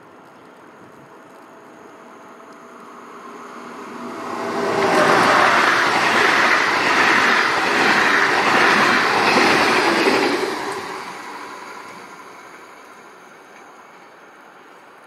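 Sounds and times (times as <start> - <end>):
train passing at speed: 0.6 - 15.0.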